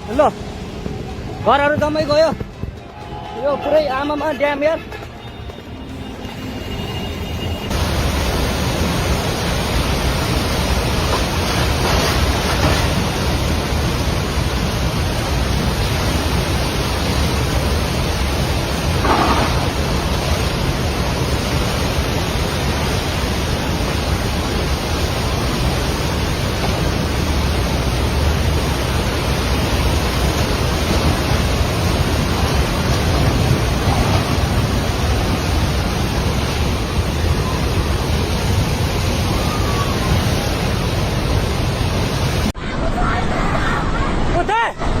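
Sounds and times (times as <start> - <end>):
floodwater rushing: 0.0 - 45.0.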